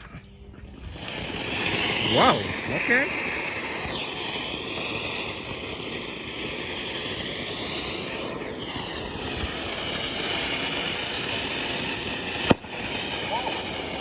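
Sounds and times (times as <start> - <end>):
firework spraying sparks hissing: 0.6 - 14.0.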